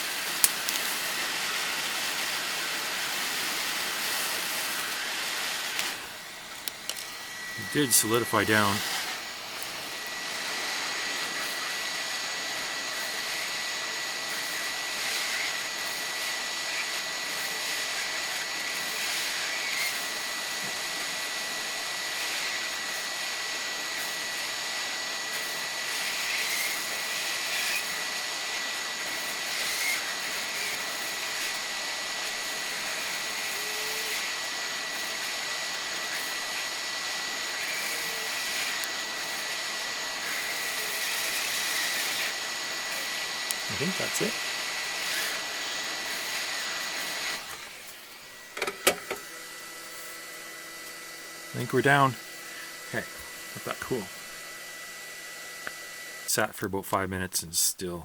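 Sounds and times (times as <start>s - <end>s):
hot air blower hissing: 0.0s - 56.4s.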